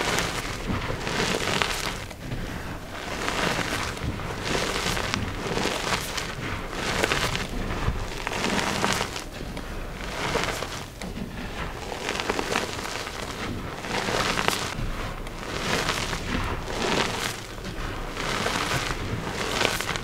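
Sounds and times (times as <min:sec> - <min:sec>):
chalk being crushed: 0:00.0 - 0:20.0.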